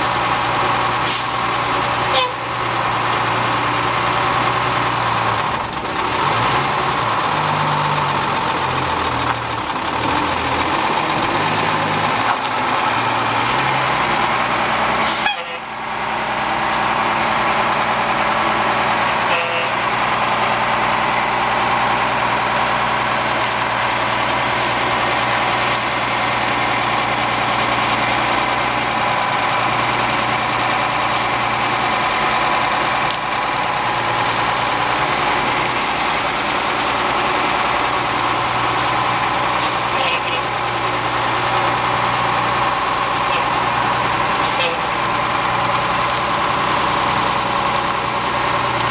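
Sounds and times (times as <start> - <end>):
truck diesel engine running: 0.0 - 48.9.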